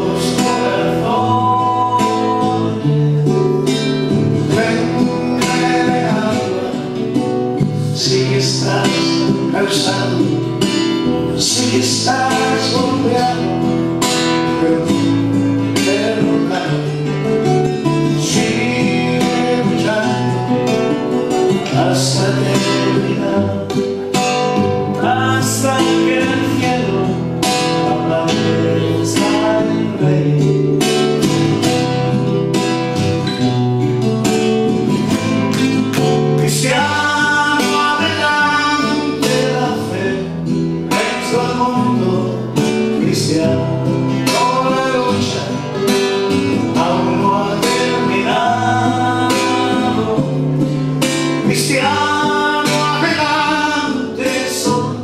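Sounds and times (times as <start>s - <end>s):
man singing: 0.0s - 33.5s, 34.2s - 55.0s
acoustic guitars playing: 0.0s - 55.0s.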